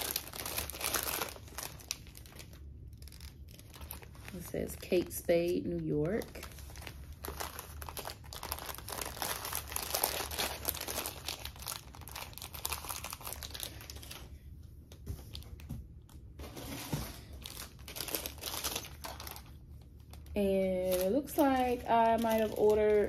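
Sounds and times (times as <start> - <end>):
plastic packaging crinkling: 0.0 - 23.0.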